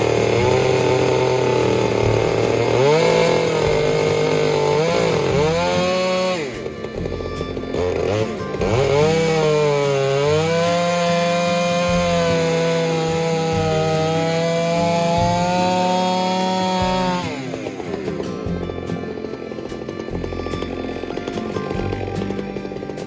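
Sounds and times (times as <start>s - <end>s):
chainsaw cutting a log: 0.0s - 23.0s.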